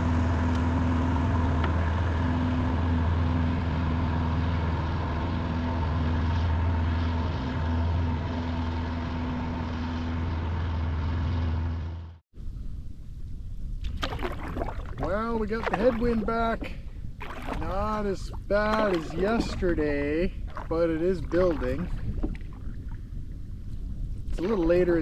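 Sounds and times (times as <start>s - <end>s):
boat engines droning: 0.0s - 12.2s, 14.0s - 25.0s.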